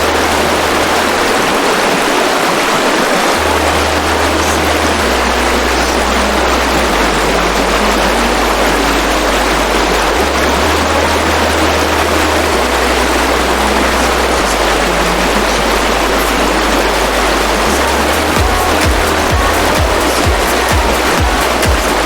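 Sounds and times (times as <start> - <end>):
background music bass notes: 0.0 - 2.3, 3.3 - 22.0
waterfall rushing: 0.0 - 22.0.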